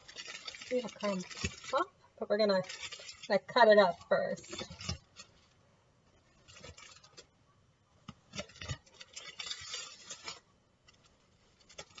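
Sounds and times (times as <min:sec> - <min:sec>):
aluminium foil crinkling: 0:00.0 - 0:05.6, 0:06.2 - 0:07.3, 0:08.3 - 0:12.0.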